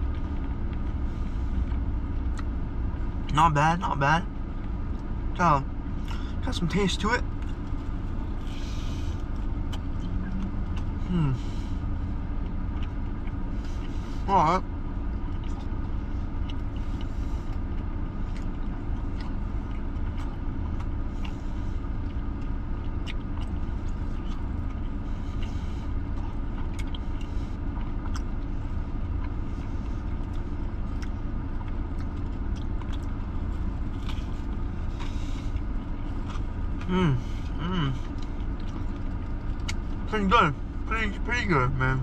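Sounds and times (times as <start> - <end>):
person chewing: 0.0 - 3.3, 6.0 - 6.4, 7.2 - 40.1
car engine idling: 0.0 - 42.0.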